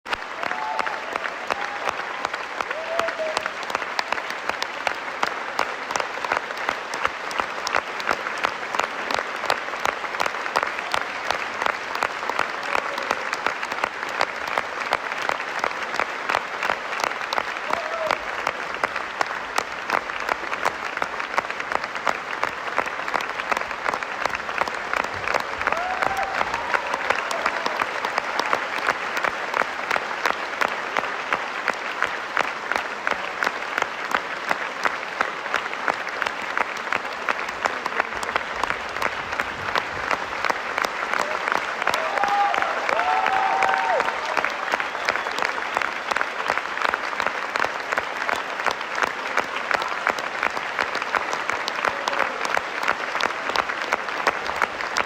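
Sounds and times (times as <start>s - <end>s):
audience applauding: 0.0s - 55.0s.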